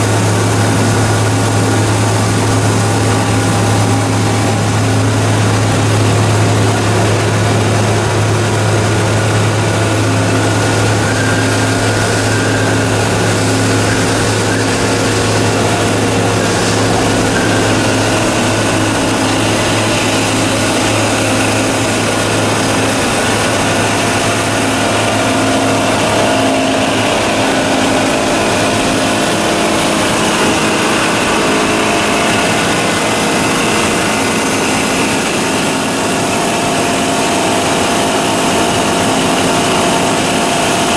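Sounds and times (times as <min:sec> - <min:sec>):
recycling machine running: 0:00.0 - 0:40.9.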